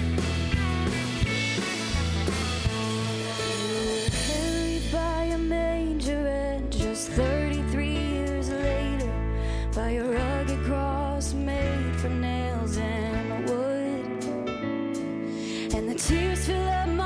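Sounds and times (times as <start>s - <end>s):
band playing slow song: 0.0s - 17.0s.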